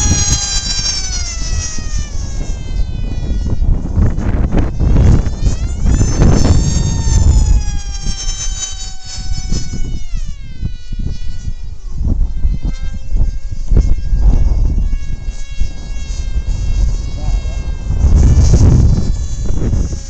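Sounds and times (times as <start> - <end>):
electric motor and propeller whining: 0.0 - 20.0
wind buffeting microphone: 0.0 - 20.0.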